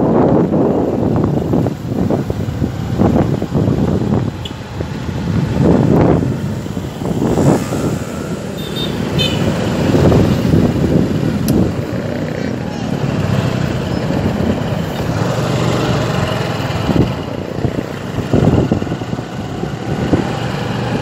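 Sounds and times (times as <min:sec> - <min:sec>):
road traffic: 0:00.0 - 0:21.0
wind buffeting microphone: 0:00.0 - 0:21.0
scooter engine: 0:00.2 - 0:21.0.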